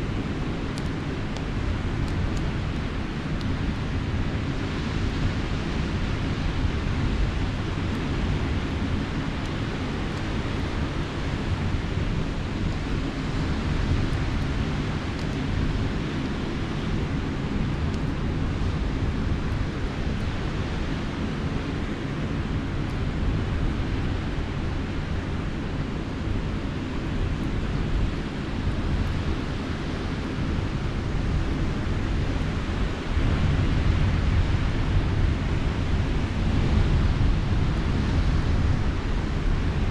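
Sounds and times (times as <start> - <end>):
campfire crackles: 0.0 - 39.9
sea surf washing on shore: 0.0 - 39.9
wind rumbling on microphone: 0.0 - 39.9.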